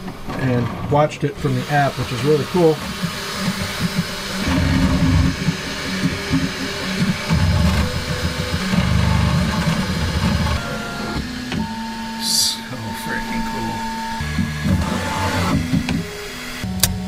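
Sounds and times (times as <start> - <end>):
printer stepper motors humming: 0.0 - 17.0.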